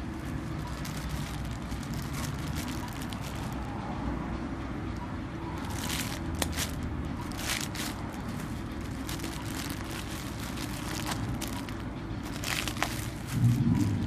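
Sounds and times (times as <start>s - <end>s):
packaging crinkling and rustling: 0.0s - 3.7s, 5.6s - 14.0s
low background rumble: 0.0s - 14.0s.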